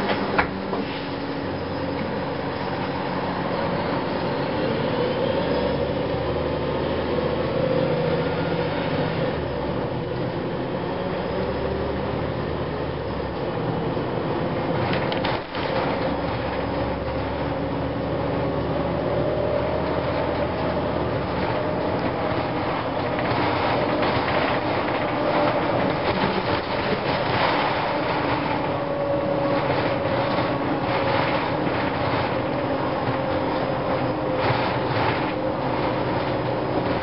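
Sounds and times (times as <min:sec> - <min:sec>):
bus diesel engine running: 0:00.0 - 0:37.0
road rumble: 0:00.0 - 0:37.0.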